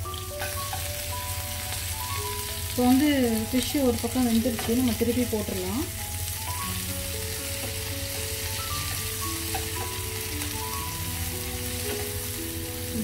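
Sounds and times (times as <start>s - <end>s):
fish sizzling in pan: 0.0s - 13.0s
soft background music: 0.0s - 13.0s.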